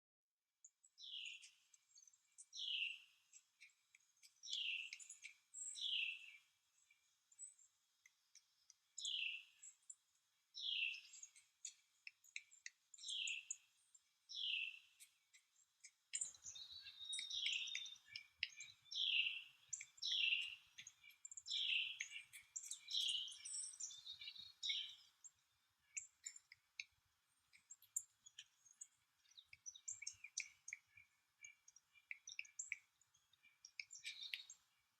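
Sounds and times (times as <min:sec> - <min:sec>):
bird chip ticks: 0:01.0 - 0:34.9.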